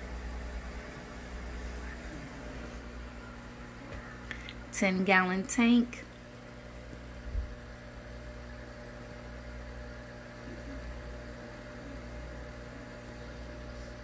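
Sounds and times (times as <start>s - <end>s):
aquarium filter hum and hiss: 0.0s - 14.0s.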